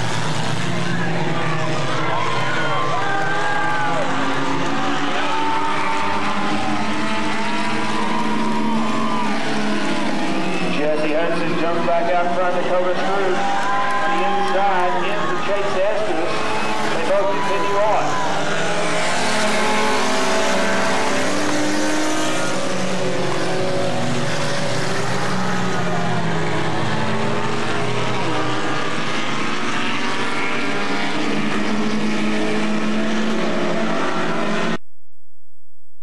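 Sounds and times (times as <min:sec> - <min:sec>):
race car engines: 0:00.0 - 0:34.8.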